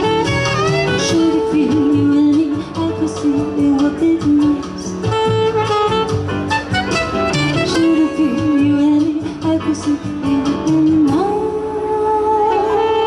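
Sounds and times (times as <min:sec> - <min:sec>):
jazz band playing: 0:00.0 - 0:13.0.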